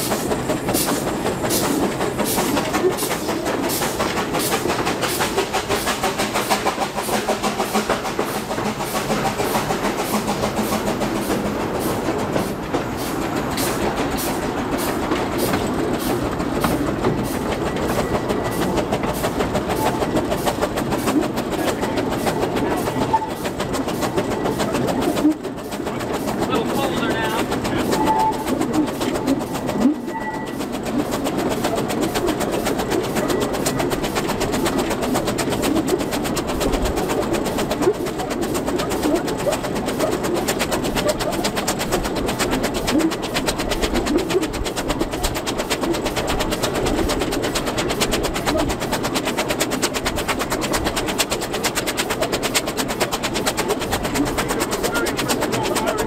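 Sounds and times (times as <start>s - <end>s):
steam locomotive running: 0.0s - 56.0s.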